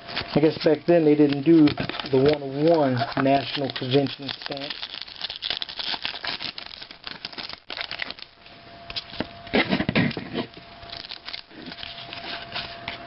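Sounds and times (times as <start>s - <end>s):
cards being handled: 0.0s - 8.2s, 10.0s - 13.0s
wrappers crinkling: 0.0s - 9.2s, 10.5s - 12.8s.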